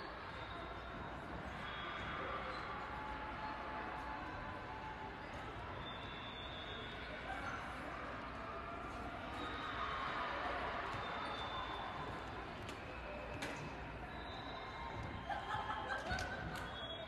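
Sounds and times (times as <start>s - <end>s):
indistinct chatter in a hall: 0.0s - 17.0s.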